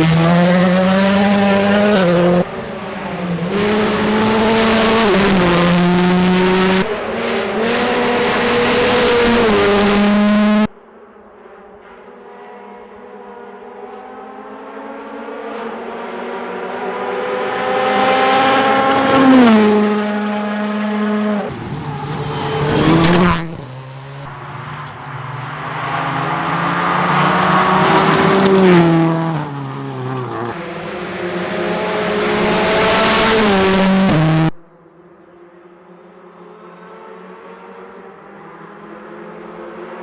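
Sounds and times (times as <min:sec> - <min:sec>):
rally cars passing at speed: 0:00.0 - 0:40.0.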